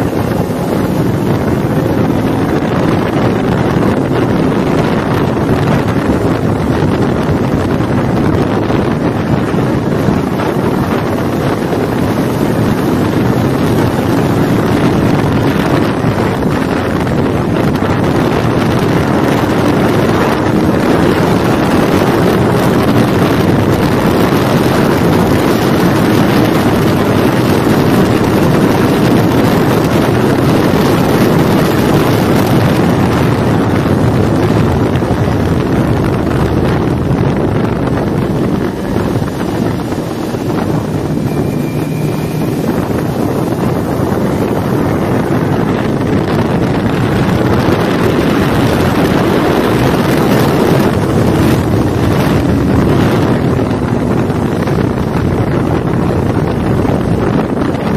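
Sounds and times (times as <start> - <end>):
motorcycle engine running: 0.0 - 57.9
wind rushing on microphone: 0.0 - 57.9.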